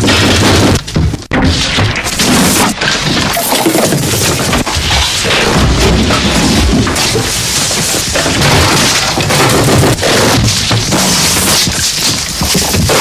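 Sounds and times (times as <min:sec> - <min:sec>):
crashing impacts: 0:00.0 - 0:13.0.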